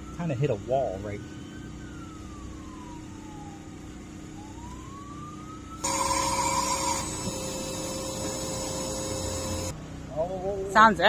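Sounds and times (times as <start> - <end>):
faint siren wailing: 0.0 - 9.8
steady humming noise: 0.0 - 11.0.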